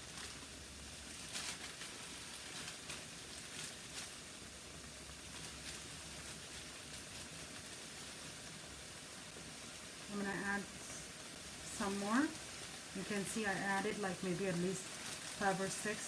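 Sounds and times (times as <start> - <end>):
faint crackles: 0.0 - 16.0
mushrooms sizzling in a frying pan: 0.0 - 16.0.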